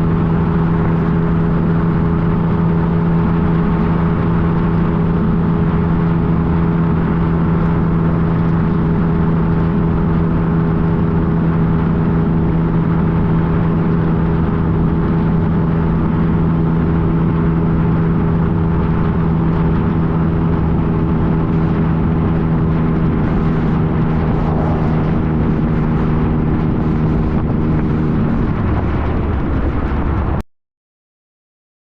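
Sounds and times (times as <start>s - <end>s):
motorcycle engine running: 0.0s - 30.4s
road and wind noise: 0.0s - 30.4s.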